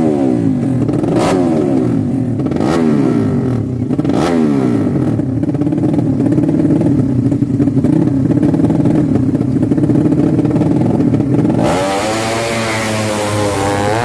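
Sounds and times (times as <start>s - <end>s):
motorcycle engine revving high: 0.0s - 14.0s.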